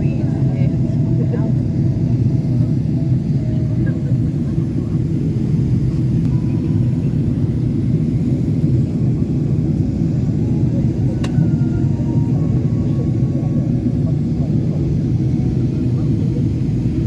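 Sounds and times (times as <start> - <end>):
airplane cabin low rumble: 0.0 - 17.0.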